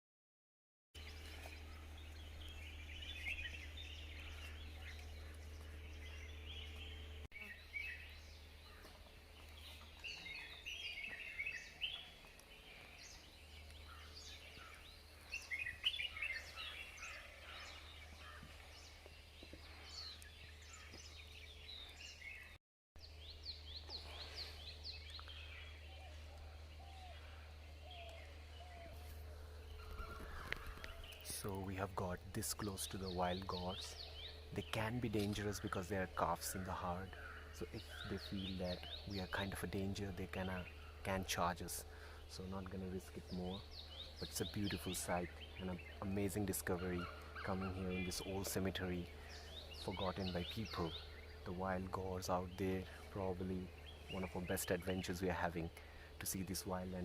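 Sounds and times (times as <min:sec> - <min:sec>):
birds chirping and singing: 0:01.0 - 0:57.0.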